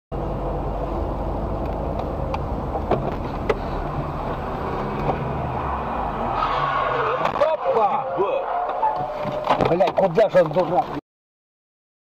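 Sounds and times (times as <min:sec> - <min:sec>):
car engine and road noise: 0:00.1 - 0:11.0.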